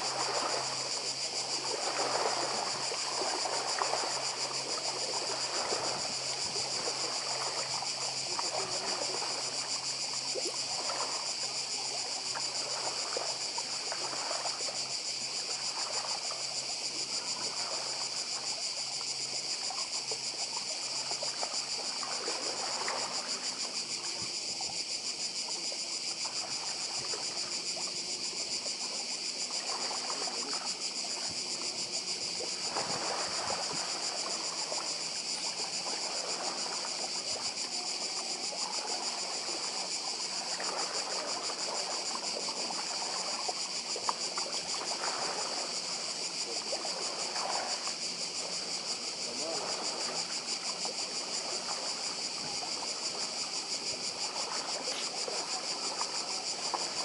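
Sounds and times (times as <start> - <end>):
cicadas droning: 0.0 - 57.0
waves lapping on pebble shore: 0.0 - 57.0.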